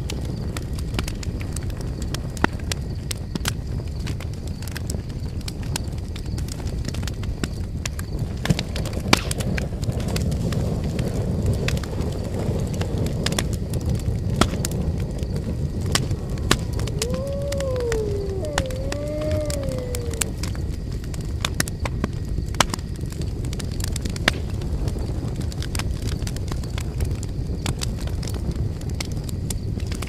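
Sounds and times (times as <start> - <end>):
campfire crackling: 0.0 - 30.0
fire pops and cracks: 0.0 - 30.0.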